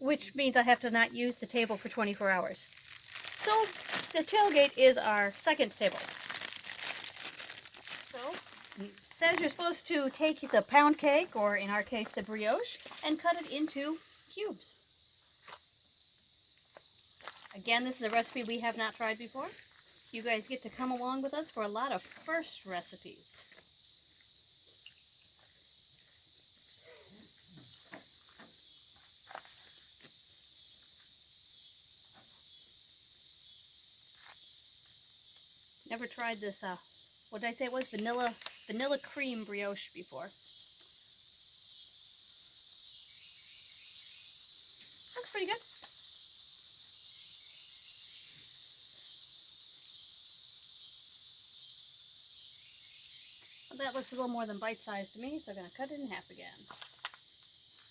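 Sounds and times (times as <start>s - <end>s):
crickets chirping: 0.0s - 57.9s
night insects trilling: 0.0s - 57.9s.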